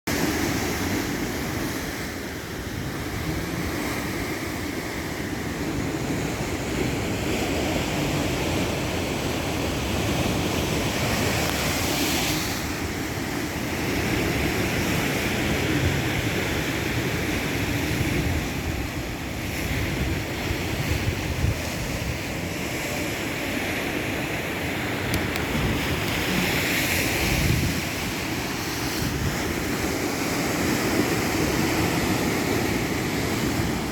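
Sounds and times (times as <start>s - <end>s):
ocean surf breaking: 0.1s - 33.9s
wind rumbling on microphone: 0.1s - 33.9s.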